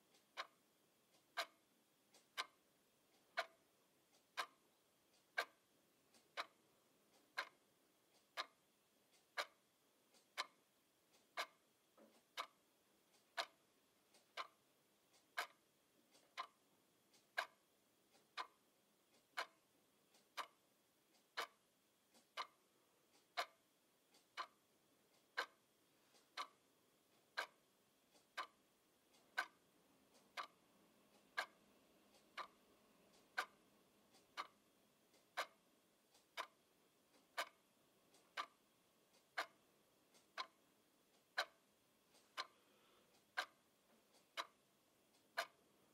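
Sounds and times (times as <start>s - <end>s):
alarm clock ticking: 0.0s - 45.9s.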